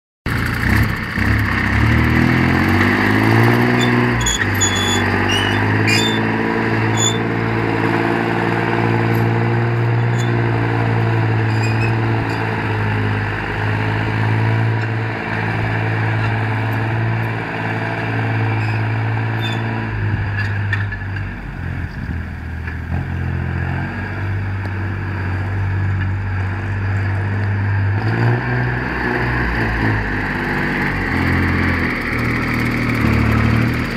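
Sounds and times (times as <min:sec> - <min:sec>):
tractor diesel engine running: 0:00.3 - 0:33.9.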